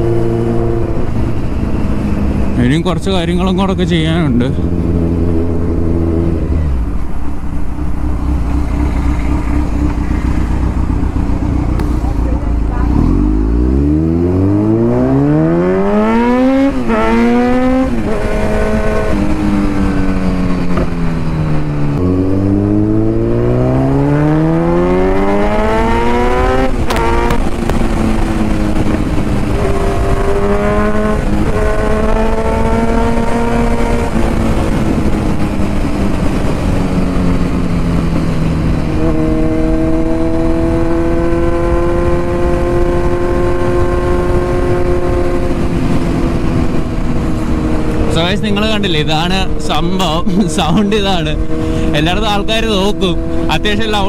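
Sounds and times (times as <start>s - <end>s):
motorcycle exhaust accelerating: 0.0s - 54.0s.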